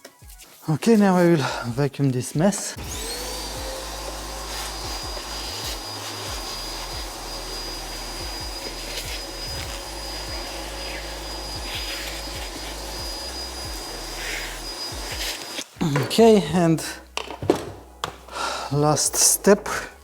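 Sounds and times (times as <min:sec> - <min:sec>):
vacuum cleaner running: 0:02.6 - 0:19.9.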